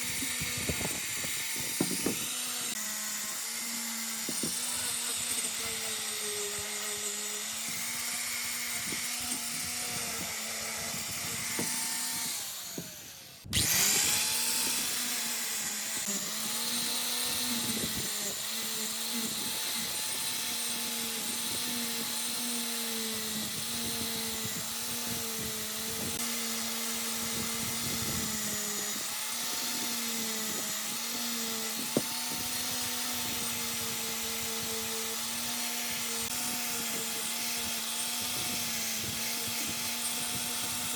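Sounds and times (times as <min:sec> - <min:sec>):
electric power tool motor running: 0:00.0 - 0:40.9.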